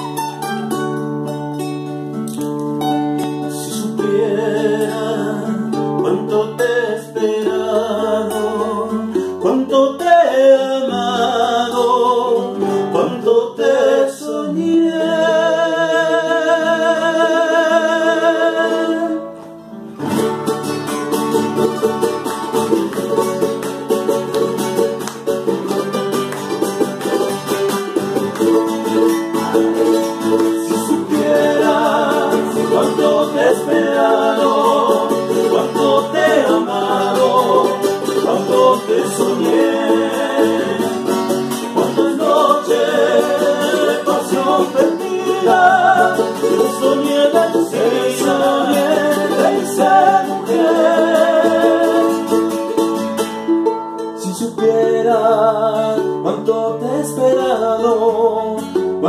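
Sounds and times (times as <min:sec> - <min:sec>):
strummed small string instrument: 0:00.0 - 0:10.2, 0:19.4 - 0:59.0
classical guitar: 0:00.0 - 0:59.0.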